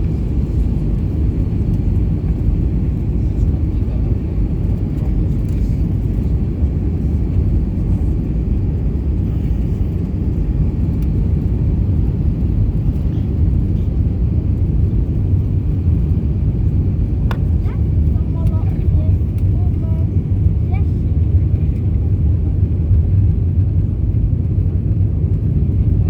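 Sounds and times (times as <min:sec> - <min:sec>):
airplane cabin engine rumble: 0:00.0 - 0:26.0.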